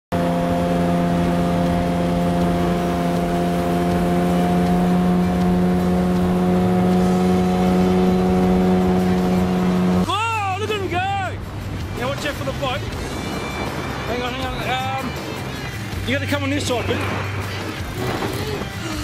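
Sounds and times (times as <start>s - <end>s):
boat motor humming: 0.1s - 19.0s.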